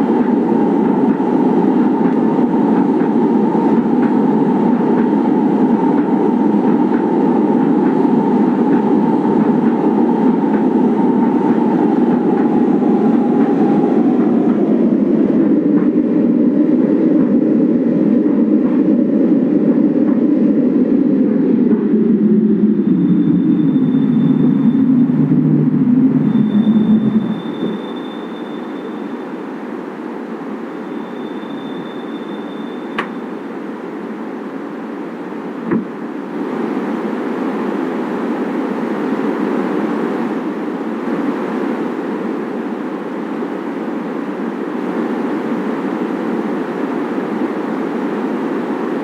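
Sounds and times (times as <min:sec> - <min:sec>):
light rail train rumbling: 0:00.0 - 0:49.0
thin high whine: 0:00.0 - 0:49.0.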